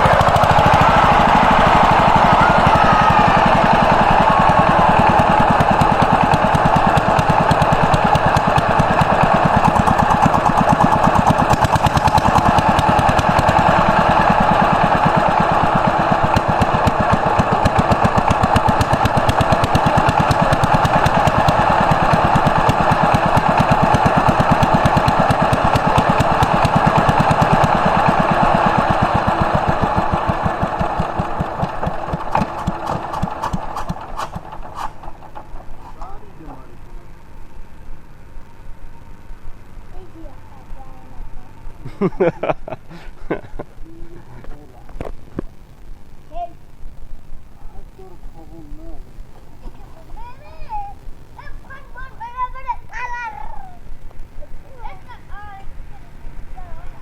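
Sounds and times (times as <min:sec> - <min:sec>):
diesel engine running: 0:00.0 - 0:43.2, 0:44.1 - 0:57.0.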